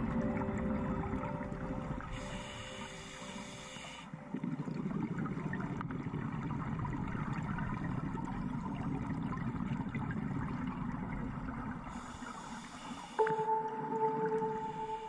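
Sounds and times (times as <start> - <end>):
muffled underwater water rush: 0.0 - 15.0.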